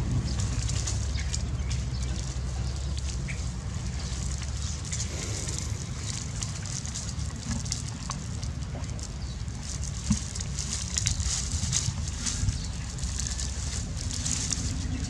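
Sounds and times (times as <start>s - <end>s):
dry palm fronds crackling: 0.0s - 15.0s
steady low rumble: 0.0s - 15.0s.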